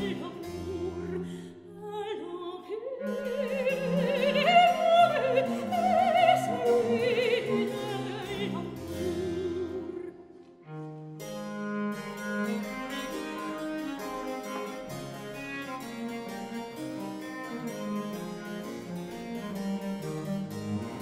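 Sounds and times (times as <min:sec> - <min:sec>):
bowed viola da gamba bass: 0:00.0 - 0:01.3, 0:03.0 - 0:21.0.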